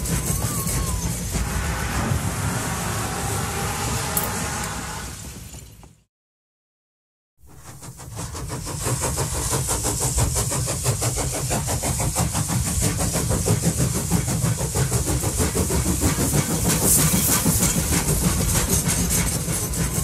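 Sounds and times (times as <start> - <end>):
train rumbling and clattering: 0.0 - 6.1, 7.5 - 20.0.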